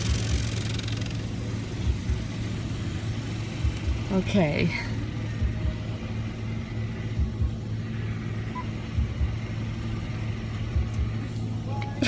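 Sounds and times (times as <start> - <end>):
car wash hum and rumble: 0.0 - 12.0.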